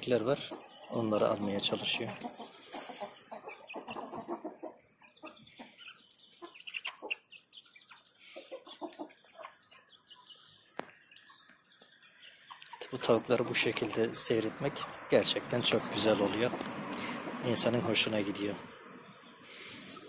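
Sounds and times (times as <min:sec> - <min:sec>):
chickens clucking softly: 0:00.0 - 0:17.1.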